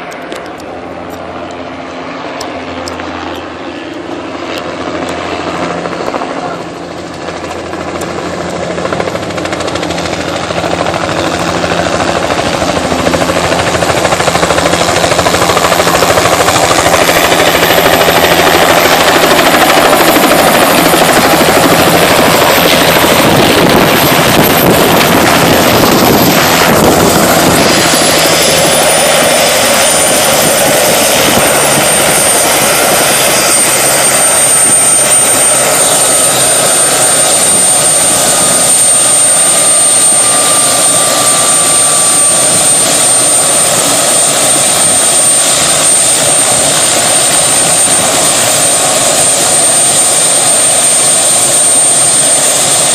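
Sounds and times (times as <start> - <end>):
helicopter rotor and engine: 0.0 - 52.9.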